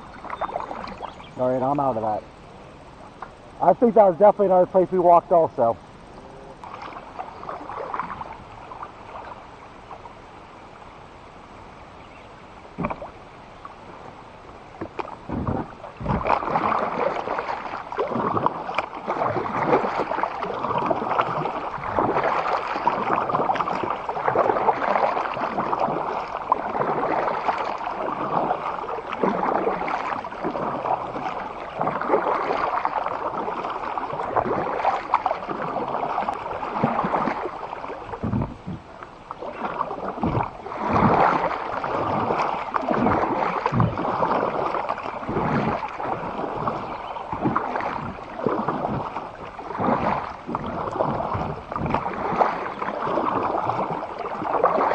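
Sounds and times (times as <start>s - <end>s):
water churning around kayak: 0.0s - 54.9s.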